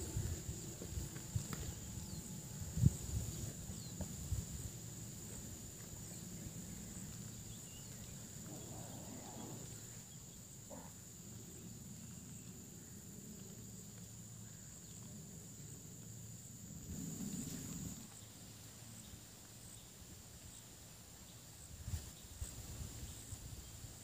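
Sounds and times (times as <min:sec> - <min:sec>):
night insects chirring: 0:00.0 - 0:24.0.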